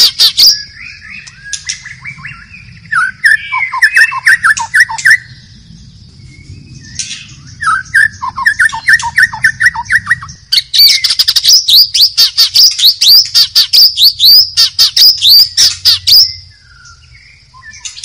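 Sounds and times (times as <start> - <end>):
bird singing whistled notes: 0.0 - 18.0.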